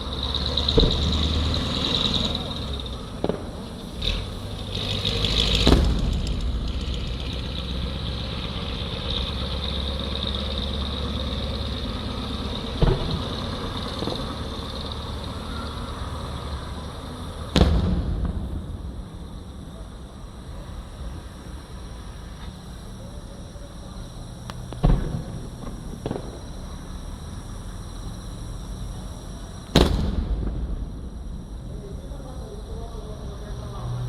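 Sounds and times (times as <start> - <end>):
distant fireworks booming: 0.0 - 34.0
steady low rumble: 2.3 - 15.5, 16.3 - 34.0.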